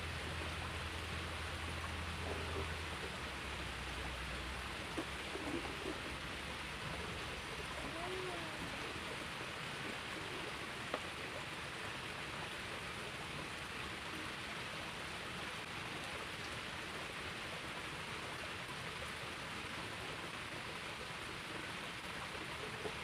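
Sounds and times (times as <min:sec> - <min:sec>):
small stream flowing: 0:00.0 - 0:23.0.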